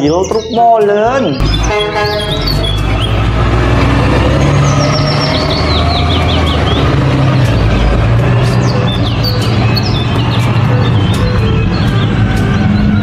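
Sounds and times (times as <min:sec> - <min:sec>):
bird chirping: 0:00.0 - 0:13.0
truck diesel engine running: 0:01.4 - 0:13.0.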